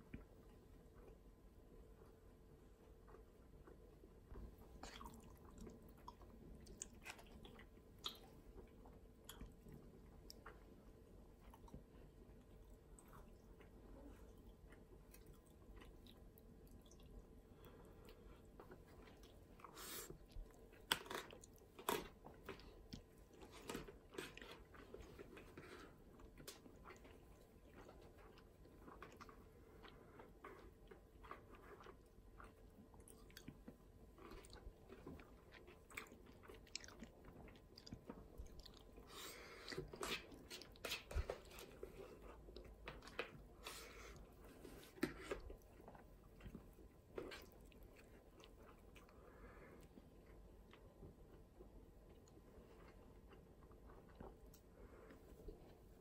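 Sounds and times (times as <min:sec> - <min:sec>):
close chewing of noodles: 0:02.9 - 0:56.0.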